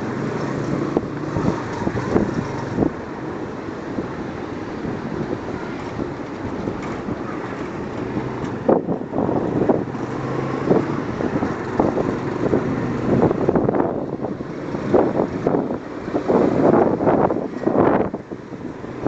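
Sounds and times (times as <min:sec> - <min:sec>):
low steady engine hum: 0:00.0 - 0:19.0
road and engine noise: 0:00.0 - 0:19.0
wind rushing across microphone: 0:00.0 - 0:19.0.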